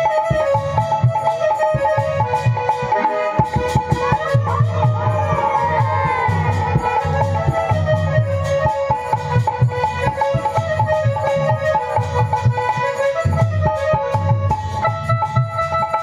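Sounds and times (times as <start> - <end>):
harmonium melody: 0.0 - 16.0
repeating drum rhythm: 0.0 - 16.0.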